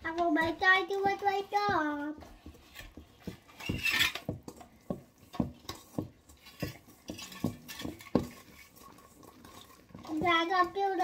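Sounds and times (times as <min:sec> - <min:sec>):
utensil stirring batter: 0:00.0 - 0:11.0.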